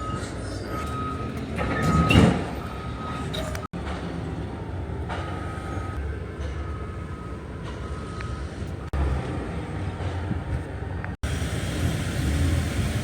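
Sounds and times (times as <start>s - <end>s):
low rumbling traffic noise: 0.0s - 13.0s.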